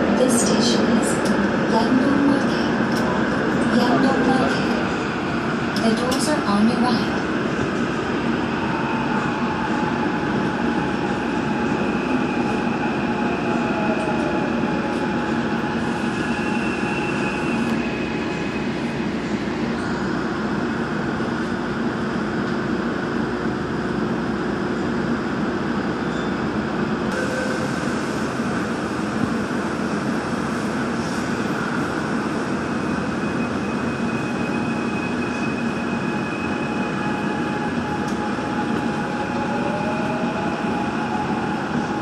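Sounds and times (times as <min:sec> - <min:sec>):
subway train wheels rumbling: 0:00.0 - 0:42.0.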